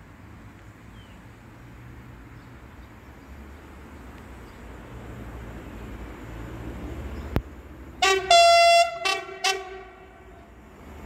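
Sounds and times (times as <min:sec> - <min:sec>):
train rumble approaching: 0:01.4 - 0:11.0.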